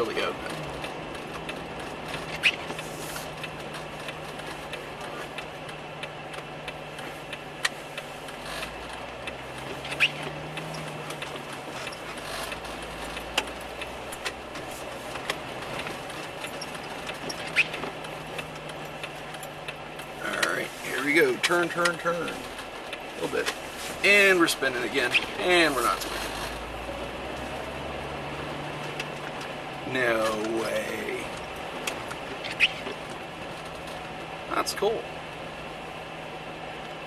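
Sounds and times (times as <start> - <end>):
car engine running: 0.0 - 37.0
road noise inside car: 0.0 - 37.0.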